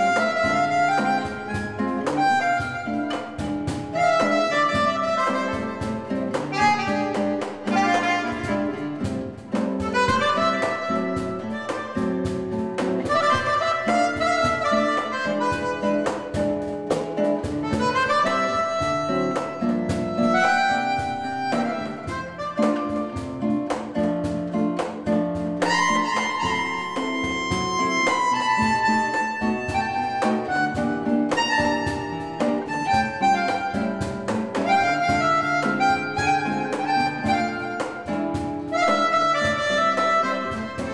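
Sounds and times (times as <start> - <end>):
acoustic guitar accompaniment: 0.0 - 40.9
free-reed instrument melody: 0.0 - 40.9
light percussion: 0.0 - 40.9.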